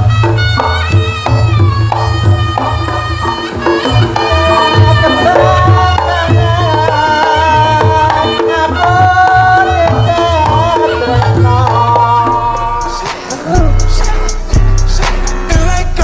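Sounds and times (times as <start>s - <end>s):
wavering bending melody: 0.0s - 15.0s
drumming: 0.0s - 16.0s.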